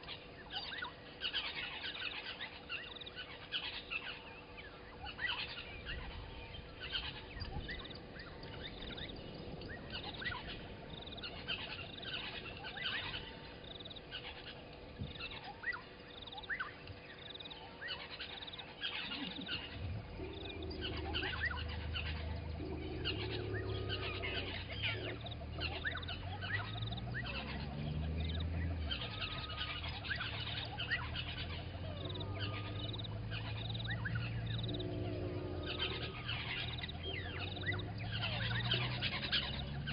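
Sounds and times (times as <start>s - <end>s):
birds chirping and whistling: 0.0s - 39.9s
low steady drone: 0.0s - 39.9s.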